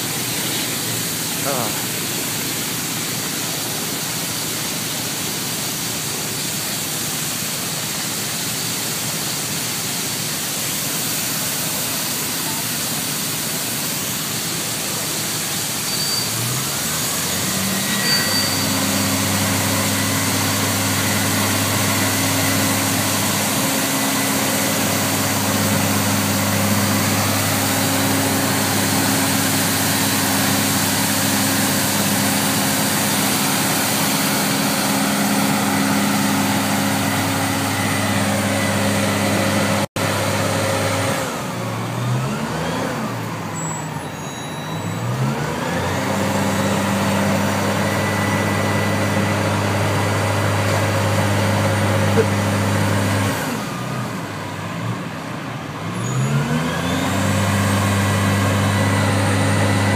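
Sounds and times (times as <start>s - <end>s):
fire truck engine droning: 0.0s - 59.9s.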